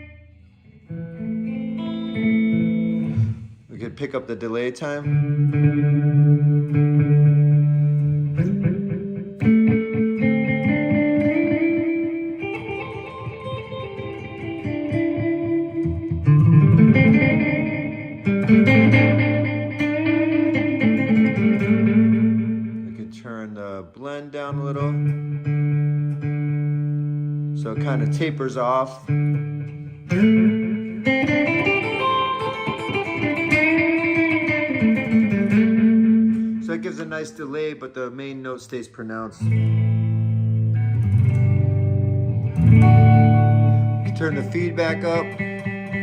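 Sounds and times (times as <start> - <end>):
electric guitar with delay echoes: 0.0 - 46.0
strummed guitar chords: 0.0 - 46.0.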